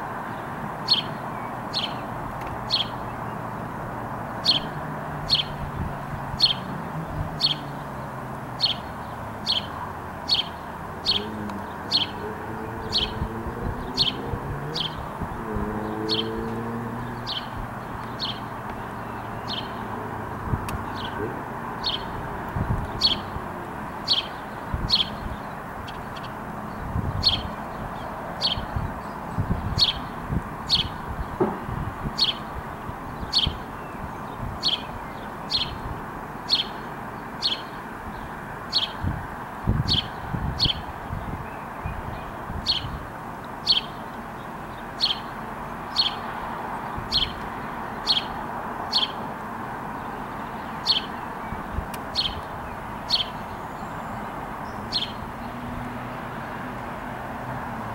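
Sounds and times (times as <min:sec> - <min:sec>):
bird chirping: 0:00.3 - 0:03.5, 0:04.3 - 0:23.4, 0:24.0 - 0:35.9, 0:36.5 - 0:39.1, 0:39.9 - 0:49.3, 0:49.9 - 0:56.1.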